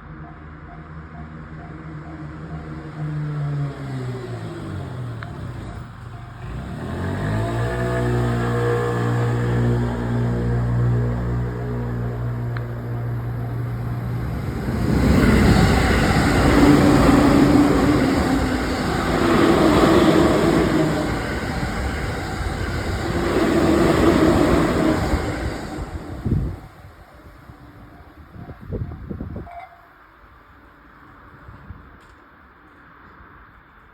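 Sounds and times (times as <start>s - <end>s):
train wheels rushing on rails: 1.0s - 29.6s.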